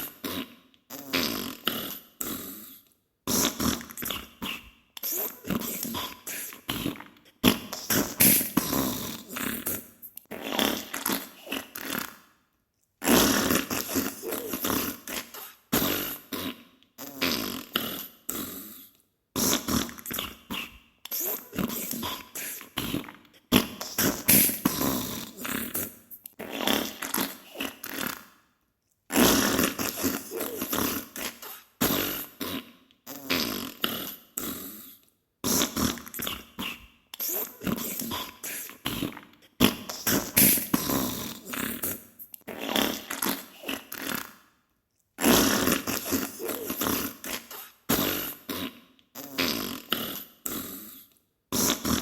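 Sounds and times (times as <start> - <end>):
sputtering fart sounds: 0.0 - 2.7, 3.3 - 12.3, 13.0 - 18.7, 19.4 - 28.4, 29.1 - 34.8, 35.4 - 44.5, 45.2 - 52.0.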